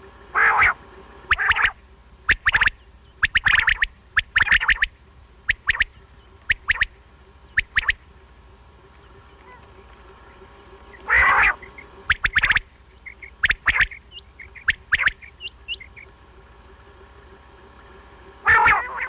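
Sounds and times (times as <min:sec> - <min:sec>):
quail calling: 0:00.3 - 0:08.2, 0:08.8 - 0:16.2, 0:18.4 - 0:19.0.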